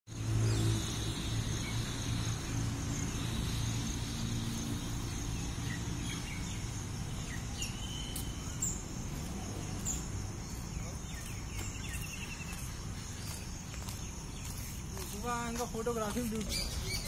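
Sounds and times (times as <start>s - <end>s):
insects droning: 0.1s - 17.0s
bird chirps: 0.4s - 15.1s, 16.2s - 17.0s.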